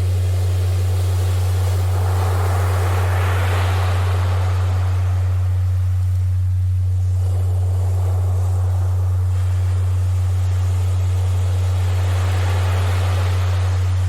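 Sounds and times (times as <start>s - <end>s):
ocean surf waves: 0.0s - 14.0s
steady low-pitched tone: 0.0s - 14.0s.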